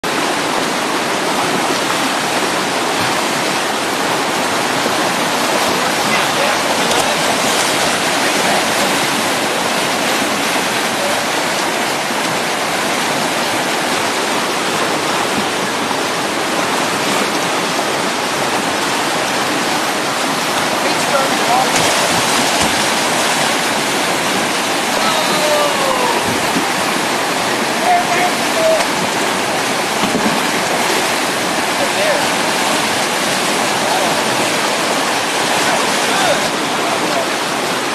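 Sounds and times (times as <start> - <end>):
whitewater roaring through rapid: 0.0 - 37.9.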